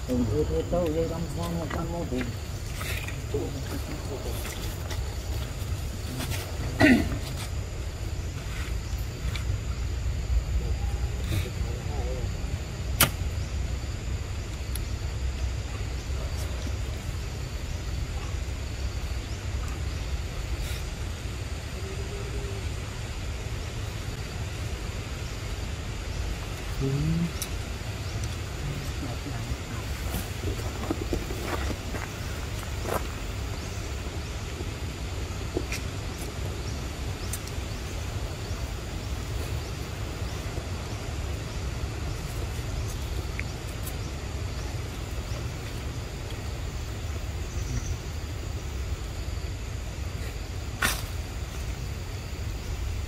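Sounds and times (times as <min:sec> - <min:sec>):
even hiss: 0:00.0 - 0:53.0
outdoor background noise: 0:00.0 - 0:53.0.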